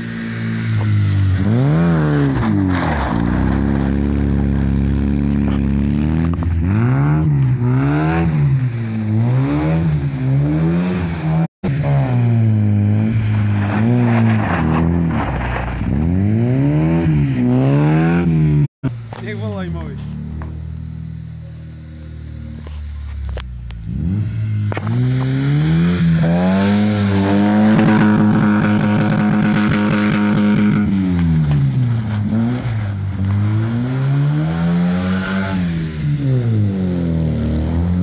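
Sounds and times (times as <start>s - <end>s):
car engine revving hard: 0.0s - 18.7s, 23.8s - 38.0s.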